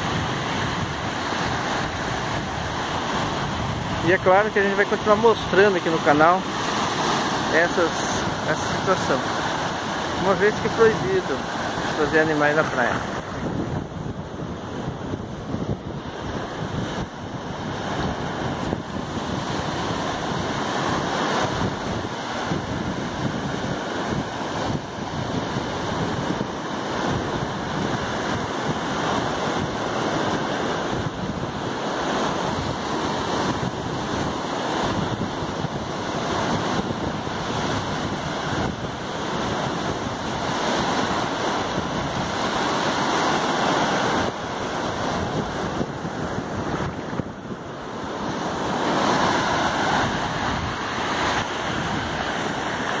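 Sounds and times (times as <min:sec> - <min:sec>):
surf washing up a beach: 0:00.0 - 0:53.0
wind buffeting the microphone: 0:00.0 - 0:53.0.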